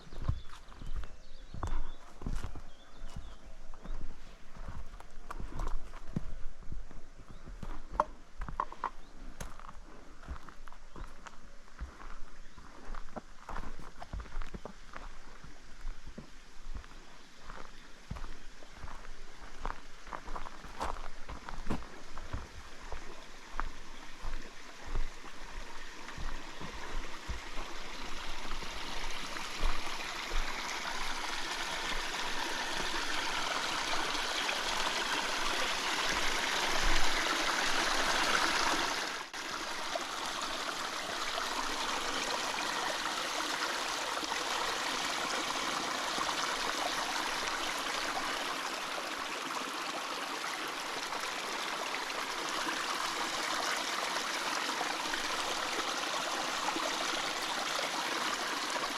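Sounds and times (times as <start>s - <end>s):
stream of water running: 0.0s - 58.9s.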